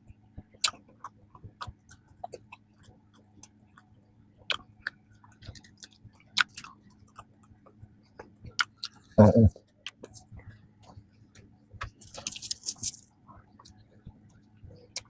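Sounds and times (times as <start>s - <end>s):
close chewing with mouth clicks: 0.4s - 12.0s, 13.3s - 15.0s.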